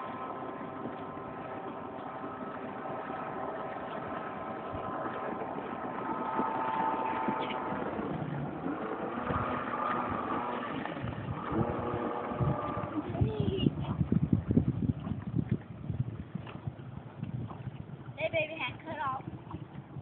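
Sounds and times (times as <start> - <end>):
watercraft engine whining: 0.0 - 20.0.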